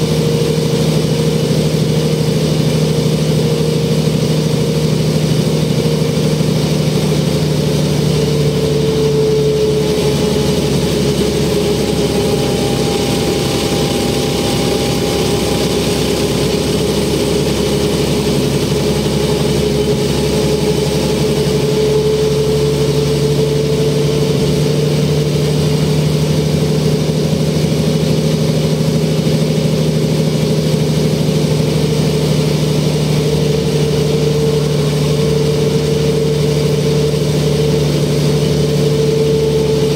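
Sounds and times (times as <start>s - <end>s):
diesel bus engine drone: 0.0s - 39.9s.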